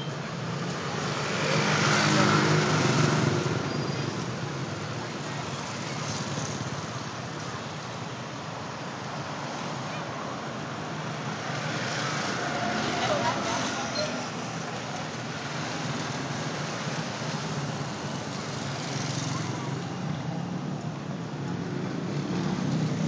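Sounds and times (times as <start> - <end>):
steady traffic hum: 0.0 - 23.0.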